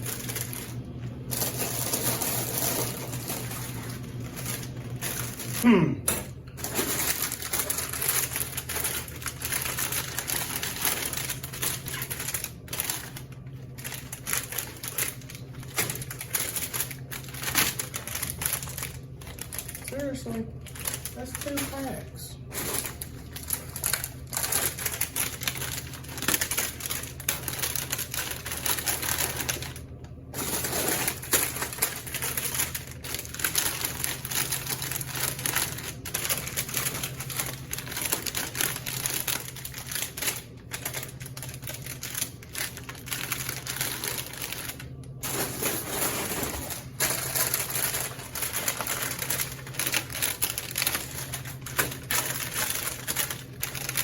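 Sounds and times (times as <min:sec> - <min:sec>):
plastic packaging crinkling: 0:00.0 - 0:05.7, 0:06.3 - 0:54.0
low steady hum: 0:00.0 - 0:54.0.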